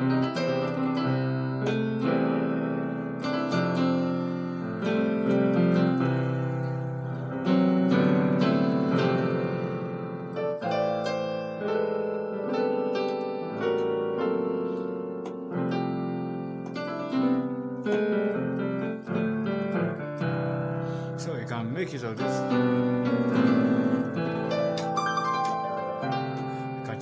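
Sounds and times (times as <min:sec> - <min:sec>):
piano playing gospel chords: 0:00.0 - 0:27.0.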